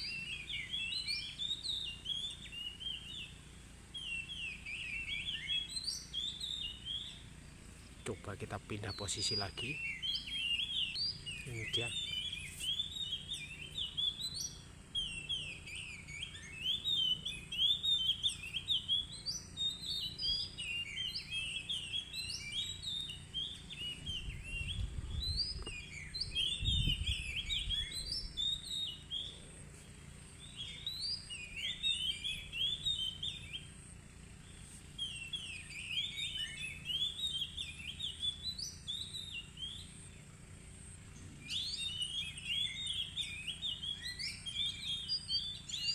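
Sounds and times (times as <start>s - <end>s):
bird singing whistled phrases: 0.0s - 3.4s, 4.0s - 7.2s, 8.0s - 29.4s, 30.4s - 33.7s, 35.0s - 40.0s, 41.4s - 45.9s.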